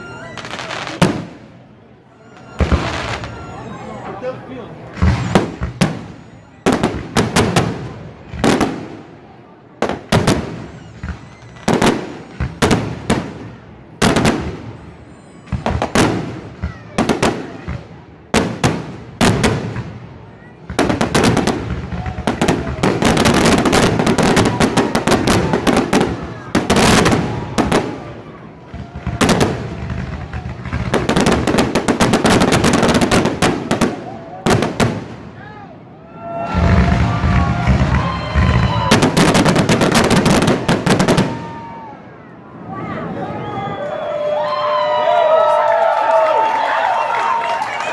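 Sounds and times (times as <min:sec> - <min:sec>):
fireworks bursting: 0:00.0 - 0:04.2, 0:04.8 - 0:35.4, 0:36.2 - 0:42.1
rapid fireworks crackling: 0:00.0 - 0:42.1.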